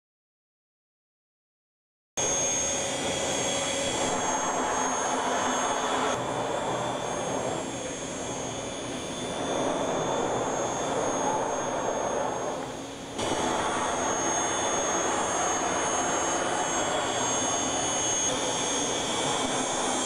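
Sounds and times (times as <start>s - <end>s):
high machine whine: 2.2s - 20.0s
milling machine hissing and humming: 2.2s - 20.0s.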